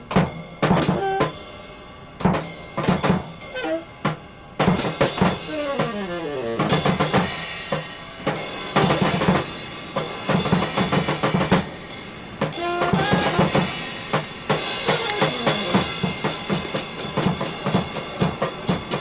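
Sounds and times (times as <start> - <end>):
drum kit fills: 0.0 - 19.0.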